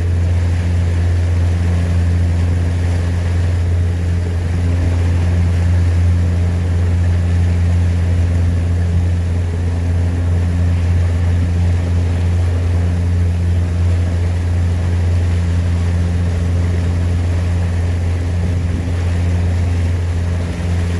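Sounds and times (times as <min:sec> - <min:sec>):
motorboat engine droning: 0:00.0 - 0:20.9.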